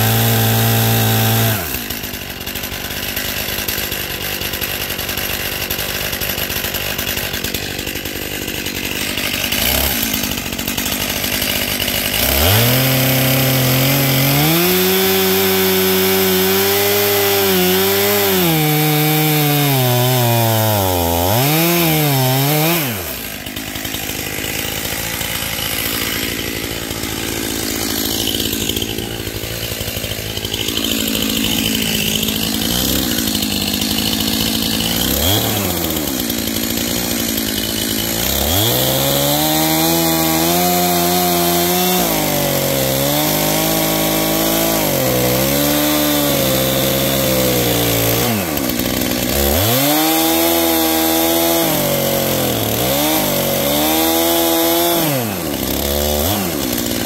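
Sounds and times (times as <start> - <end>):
chainsaw cutting wood: 0.0 - 57.0
chainsaw idling: 0.0 - 57.0
chainsaw throttle blips: 0.0 - 57.0.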